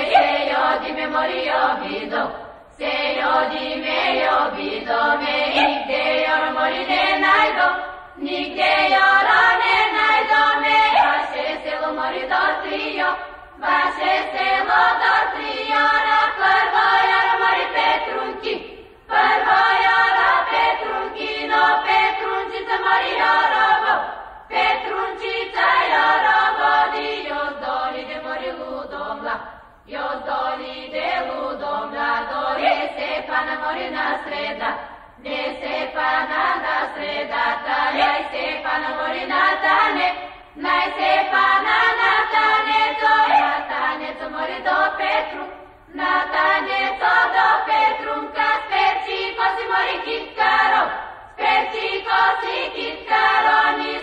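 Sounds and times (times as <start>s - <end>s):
choir singing folk song: 0.0s - 54.0s.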